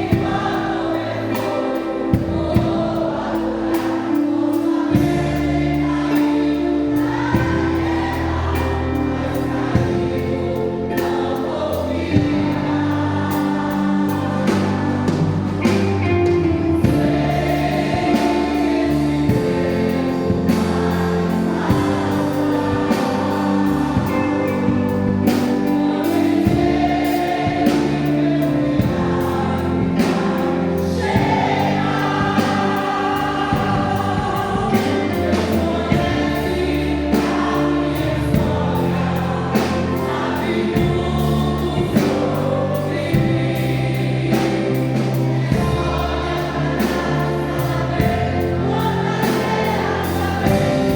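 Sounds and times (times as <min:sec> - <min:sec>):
band accompaniment: 0:00.0 - 0:50.9
choir singing a gospel hymn: 0:00.0 - 0:50.9.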